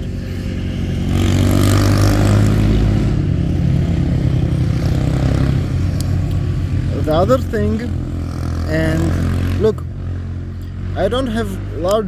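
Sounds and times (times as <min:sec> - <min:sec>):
vehicle engine running: 0:00.0 - 0:12.0
vehicle passing with road noise: 0:00.0 - 0:12.0.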